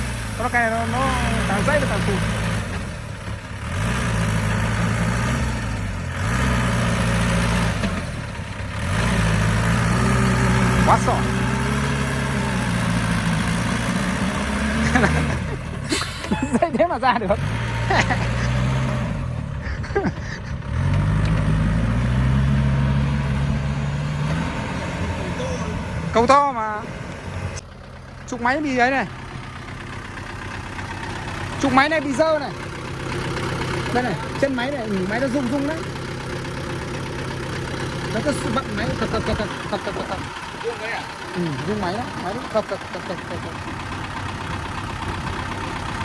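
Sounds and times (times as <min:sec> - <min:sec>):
truck engine revving hard: 0:00.0 - 0:46.0.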